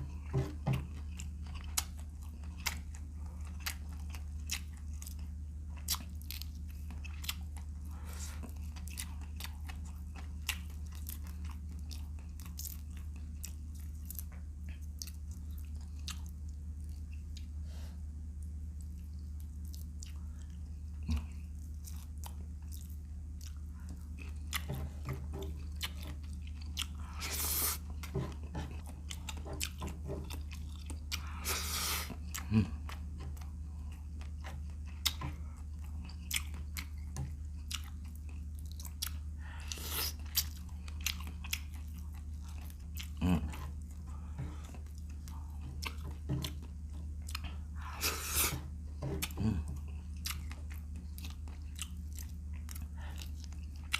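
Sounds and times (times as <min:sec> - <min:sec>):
chewing shrimp: 0:00.0 - 0:17.6, 0:18.2 - 0:53.9
steady low hum: 0:00.0 - 0:53.9.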